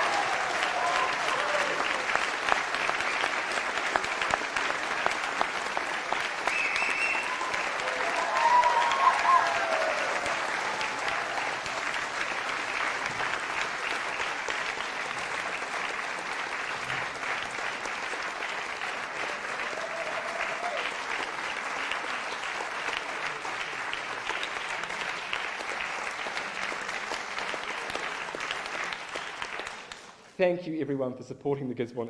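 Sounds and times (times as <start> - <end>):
audience applauding: 0.0 - 30.2.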